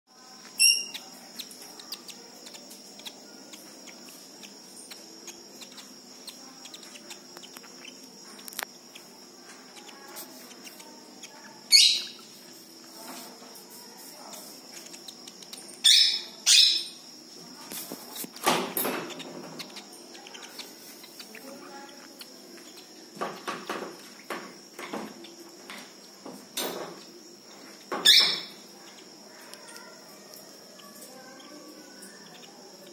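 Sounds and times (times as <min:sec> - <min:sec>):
high insect-like trill: 0:00.1 - 0:32.9
squirrel squeaking chirps: 0:00.4 - 0:12.6, 0:14.3 - 0:17.1, 0:18.2 - 0:26.2, 0:27.9 - 0:32.9.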